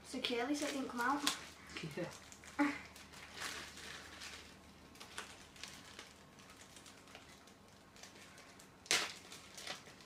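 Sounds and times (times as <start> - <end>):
plastic bag crinkling: 0.2 - 10.0.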